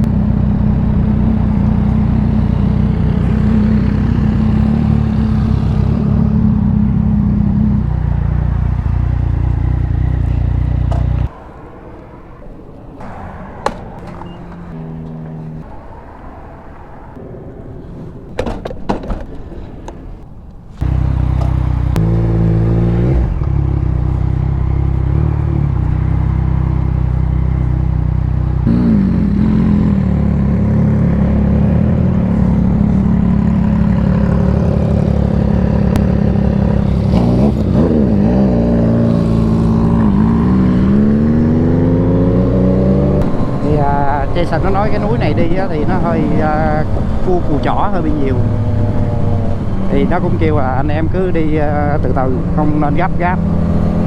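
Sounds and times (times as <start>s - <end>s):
motorcycle engine accelerating: 0.0s - 19.1s, 20.8s - 54.0s.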